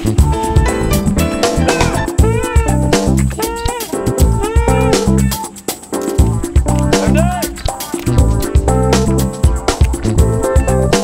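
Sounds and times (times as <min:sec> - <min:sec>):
upbeat music with drums and bass: 0:00.0 - 0:11.0.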